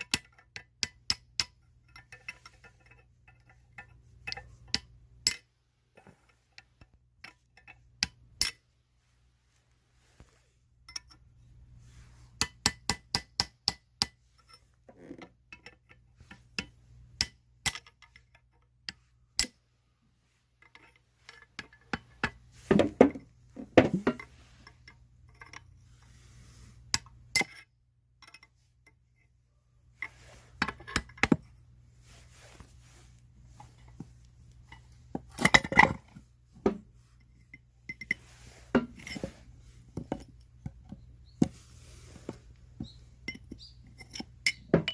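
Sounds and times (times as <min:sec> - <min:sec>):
hand tools and metal clinking: 0:00.0 - 0:08.8, 0:10.0 - 0:44.9.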